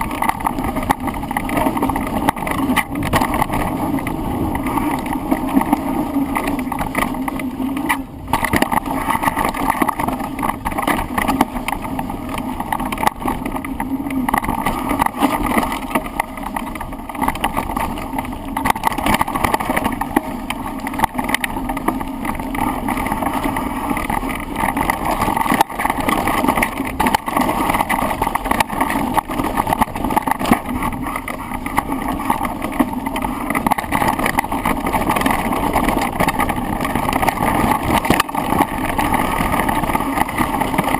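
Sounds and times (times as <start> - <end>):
bike rattling: 0.0 - 40.9
tyre and wind noise: 0.0 - 40.9.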